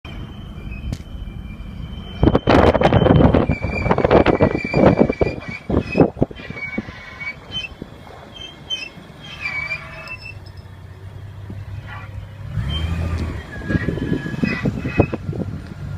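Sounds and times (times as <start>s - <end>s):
vehicle high-pitched squeak: 0.1s - 15.5s.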